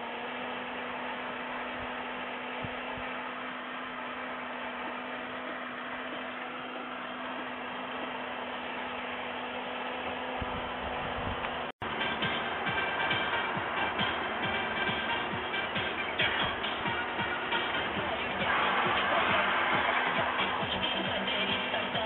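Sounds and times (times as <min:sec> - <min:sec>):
road and cabin noise: 0:00.0 - 0:22.0.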